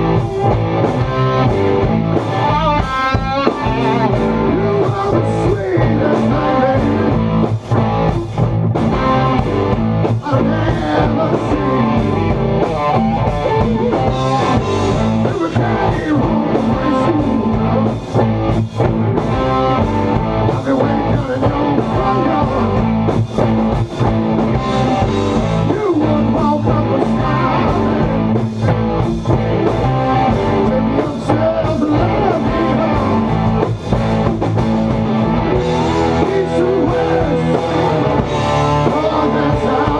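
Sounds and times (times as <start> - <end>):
bass guitar: 0.0 - 39.9
drums: 0.0 - 39.9
electric guitars: 0.0 - 39.9.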